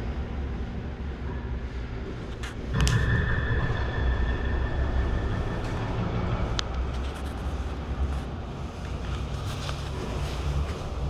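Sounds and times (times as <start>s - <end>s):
heavy engine rumbling: 0.0s - 11.0s
high whine: 1.2s - 10.2s.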